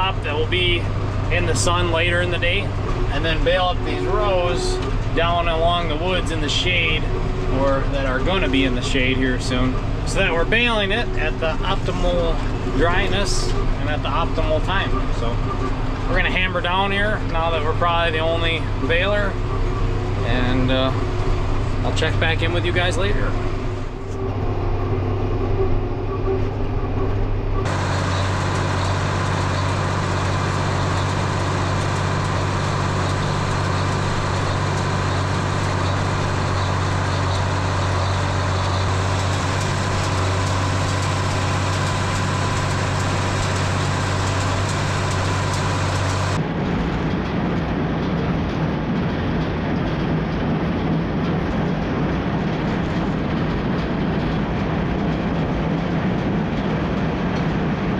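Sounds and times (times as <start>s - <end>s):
baler machinery clatter: 0.0s - 57.9s
tractor engine humming: 0.0s - 57.9s.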